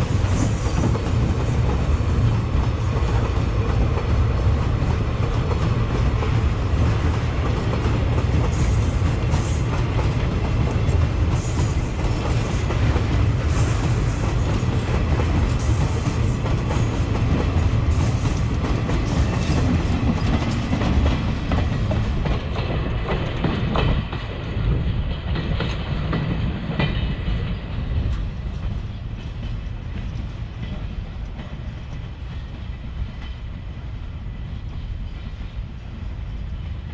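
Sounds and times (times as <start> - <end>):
train wheels clattering on rails: 0.0 - 36.9.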